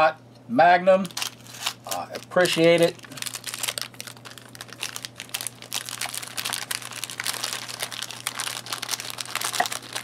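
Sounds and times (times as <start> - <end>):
plastic wrapper crinkling: 1.0 - 10.0.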